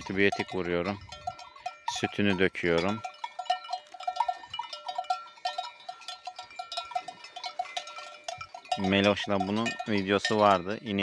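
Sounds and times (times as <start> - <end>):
cowbells clanking: 0.0 - 11.0.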